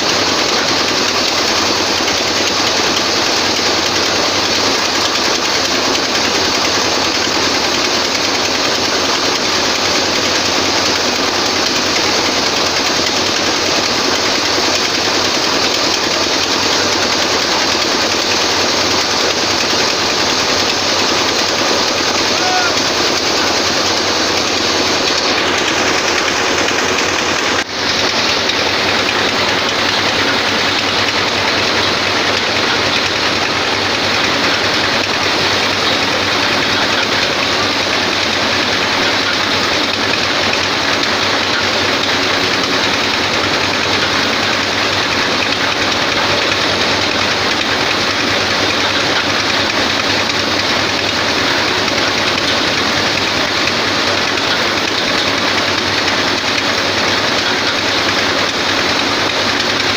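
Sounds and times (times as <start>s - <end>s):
power thresher running: 0.0s - 59.9s.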